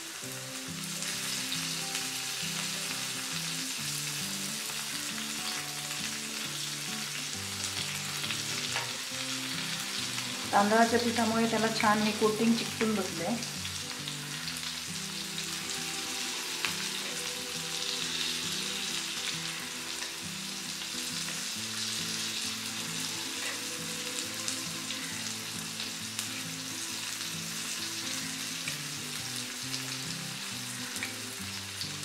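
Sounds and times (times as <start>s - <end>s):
food sizzling in oil: 0.0s - 32.0s.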